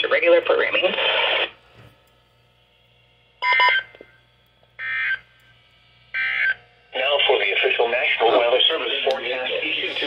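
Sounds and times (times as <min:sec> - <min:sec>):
harsh electronic buzzes: 0:00.0 - 0:10.0.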